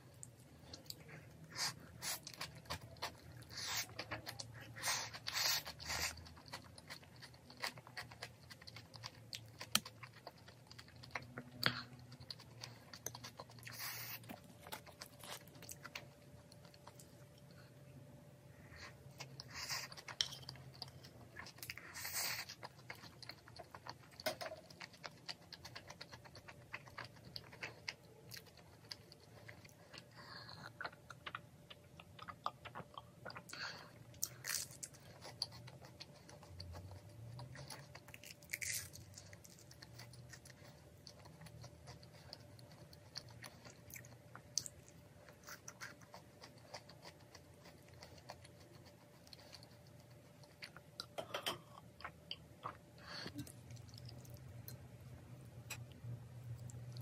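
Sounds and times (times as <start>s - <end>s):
chewing food: 0.0s - 17.7s, 18.7s - 57.0s.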